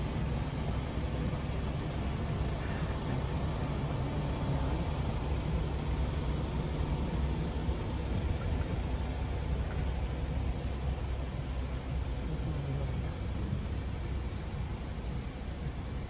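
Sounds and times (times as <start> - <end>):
tram car low rumble: 0.0 - 16.0.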